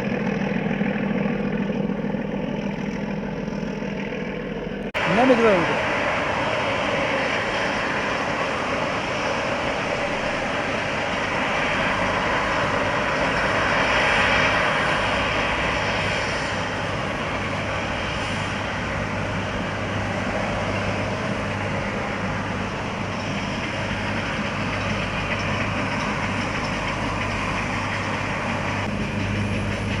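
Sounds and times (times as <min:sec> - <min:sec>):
vehicle running hum: 0:00.0 - 0:30.0.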